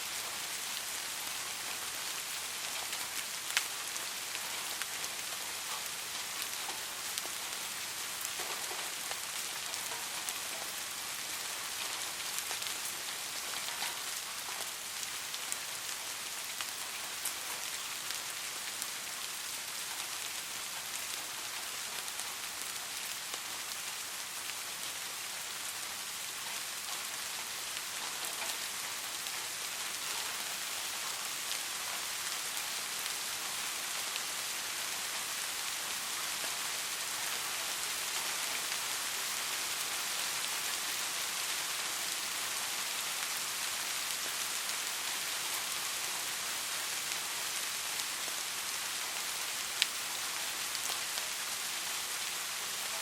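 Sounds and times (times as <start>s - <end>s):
gentle rain hiss: 0.0s - 53.0s
raindrops pattering: 0.0s - 53.0s.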